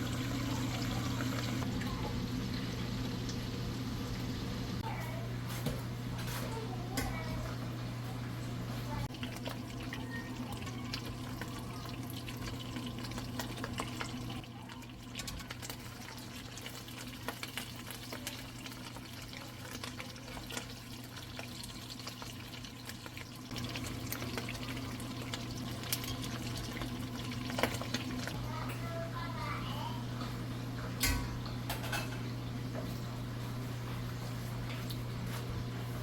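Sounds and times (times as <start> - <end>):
water running: 0.0 - 5.8, 6.5 - 36.0.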